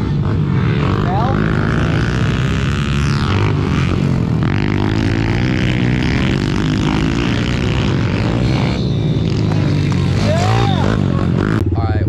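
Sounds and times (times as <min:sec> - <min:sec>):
pit bike engines revving: 0:00.0 - 0:12.0.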